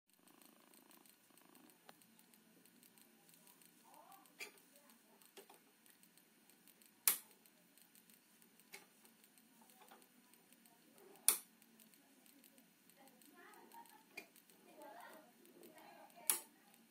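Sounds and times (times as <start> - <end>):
light plastic clicks: 1.6 - 16.9.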